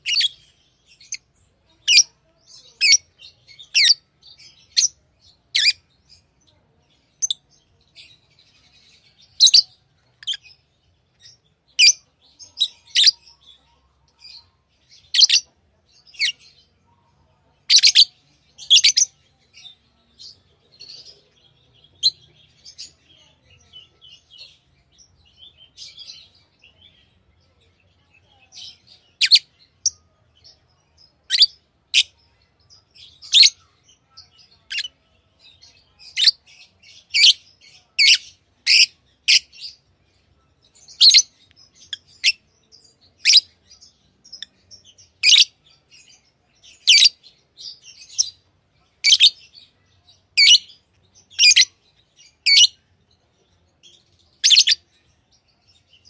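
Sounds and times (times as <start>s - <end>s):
lovebirds chirping: 0.0s - 56.0s
quiet bird twittering: 0.0s - 56.0s.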